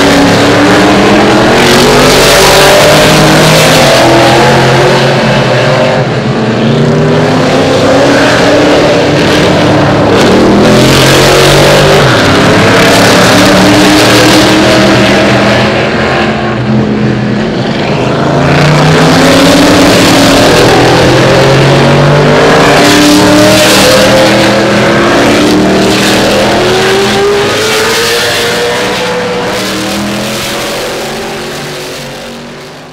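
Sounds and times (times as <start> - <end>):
racing car engines accelerating: 0.0 - 32.9.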